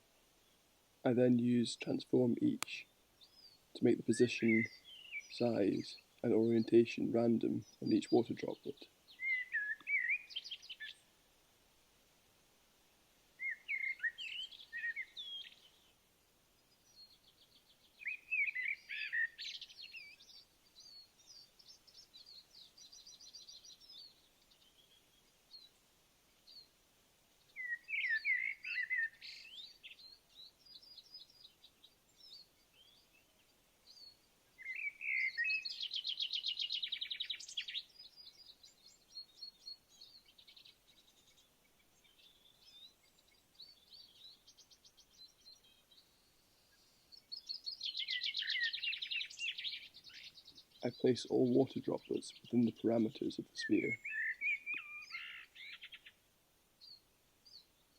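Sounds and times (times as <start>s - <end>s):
faint steady hiss: 0.0s - 57.9s
songbirds singing: 0.0s - 57.9s.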